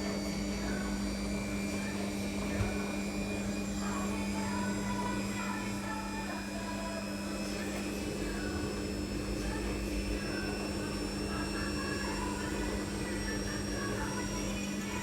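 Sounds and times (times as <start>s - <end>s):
faint voices: 0.0s - 15.0s
low machine hum: 0.0s - 15.0s.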